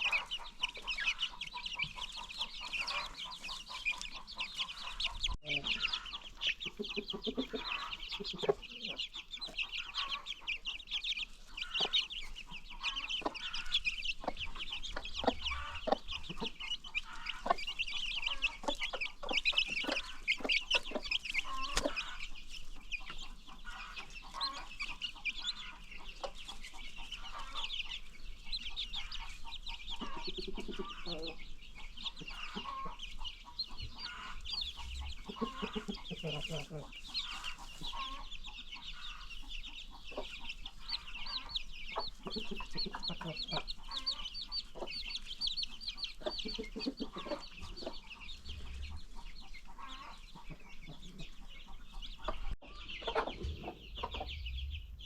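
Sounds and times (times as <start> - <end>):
baby chicks peeping: 0.0 - 55.0
chickens clucking: 0.0 - 55.0.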